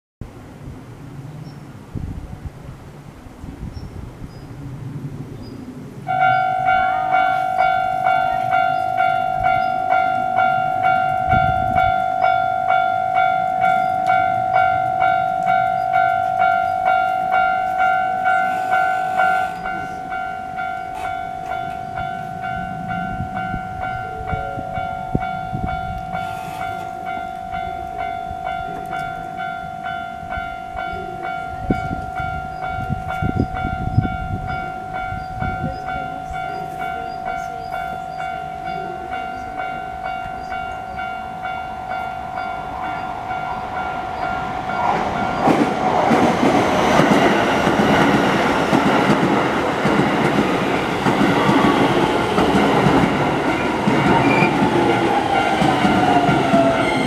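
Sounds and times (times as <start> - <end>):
train passing on rails: 0.2 - 57.0
level crossing warning bell: 6.1 - 57.0.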